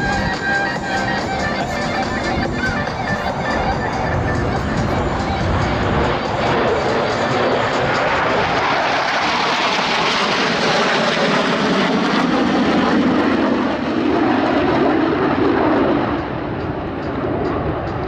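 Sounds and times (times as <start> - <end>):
jet flyover rush: 0.0 - 18.0.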